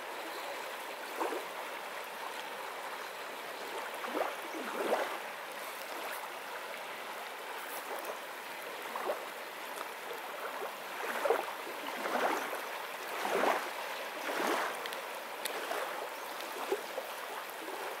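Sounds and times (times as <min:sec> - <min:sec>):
water lapping at shore: 0:00.0 - 0:18.0
small water splashes: 0:00.8 - 0:02.7, 0:03.4 - 0:18.0.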